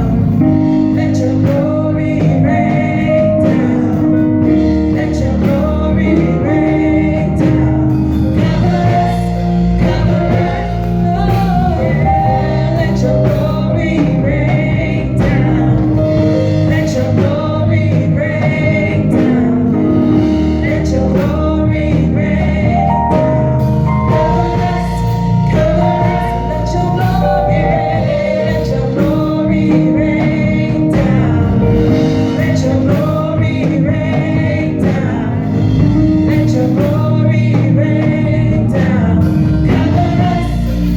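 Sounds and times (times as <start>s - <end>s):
gospel singing: 0.0s - 40.9s
instrumental backing with beat: 0.0s - 40.9s.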